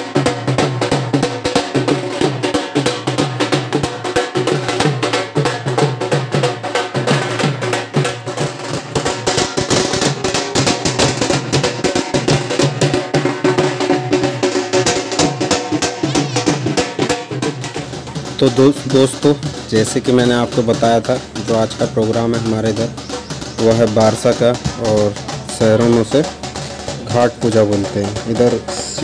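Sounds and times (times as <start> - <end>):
dhol drums fast rhythm: 0.0 - 29.0.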